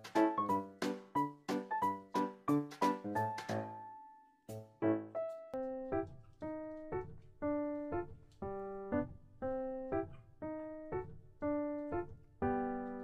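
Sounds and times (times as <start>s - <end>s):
light bouncy piano music: 0.0s - 13.0s.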